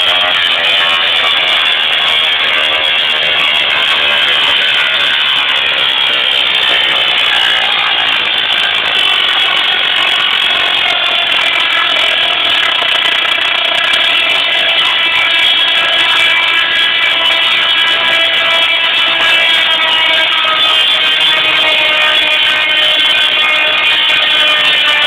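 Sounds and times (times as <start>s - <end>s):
musical tesla coil buzzing tune: 0.0s - 25.0s.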